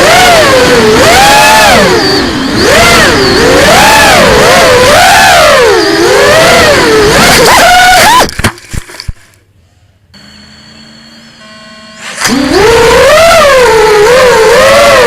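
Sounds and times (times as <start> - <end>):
drone motors whining: 0.0 - 8.3, 10.2 - 15.0.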